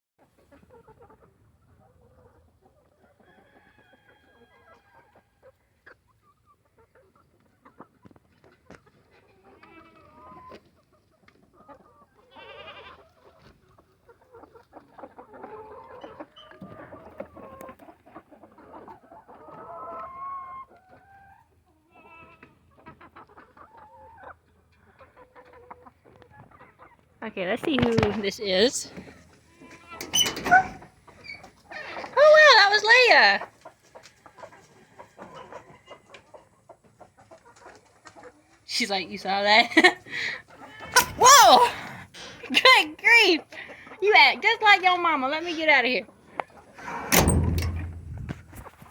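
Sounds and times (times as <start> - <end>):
chickens clucking: 0.4 - 48.9.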